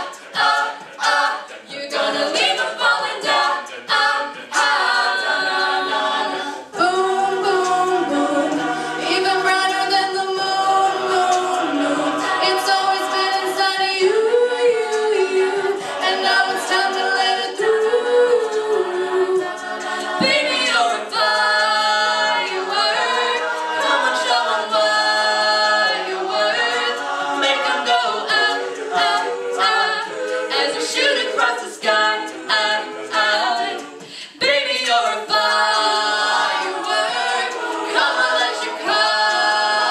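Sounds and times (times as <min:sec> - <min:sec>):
a cappella group singing: 0:00.0 - 0:39.9.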